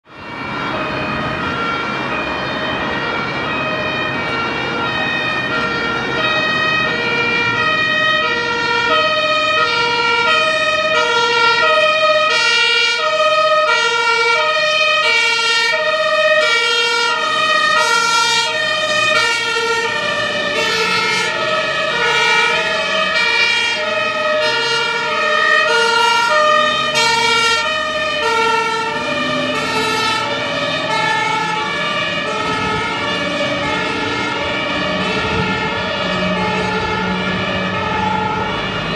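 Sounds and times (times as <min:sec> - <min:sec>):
truck engines and tyres rumbling: 0:00.0 - 0:38.9
two-tone sirens: 0:00.0 - 0:38.9.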